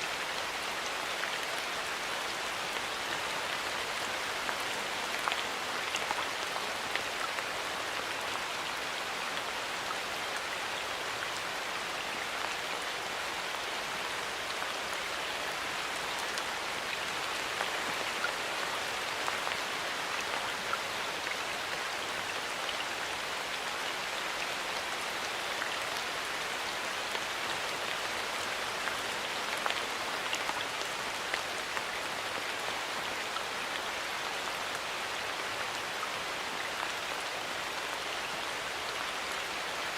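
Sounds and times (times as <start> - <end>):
hiss of rainfall: 0.0 - 39.9
raindrops pattering on leaves: 0.0 - 39.9.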